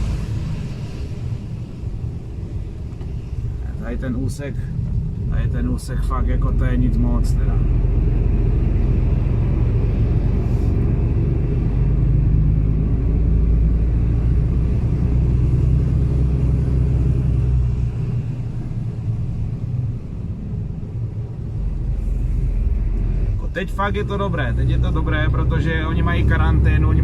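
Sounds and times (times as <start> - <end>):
truck diesel engine rumbling: 0.0 - 27.0.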